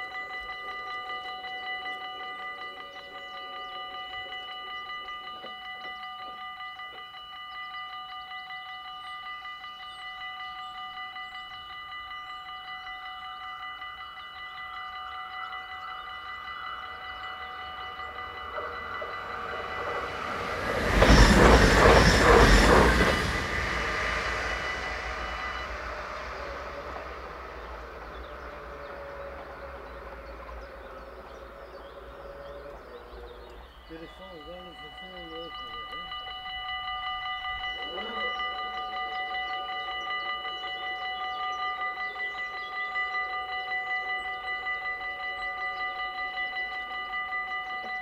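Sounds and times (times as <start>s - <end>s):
level crossing bell ringing: 0.0s - 48.0s
train passing with rush and rattle: 0.0s - 48.0s.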